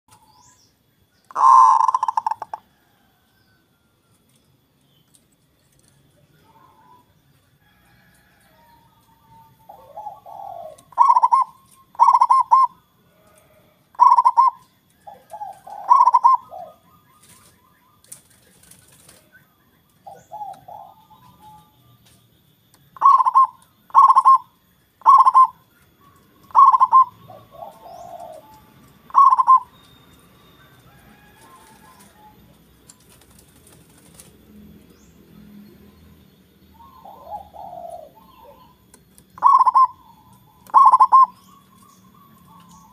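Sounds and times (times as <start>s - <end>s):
dove clipped coos: 1.3s - 3.6s, 5.7s - 35.8s, 36.6s - 42.9s.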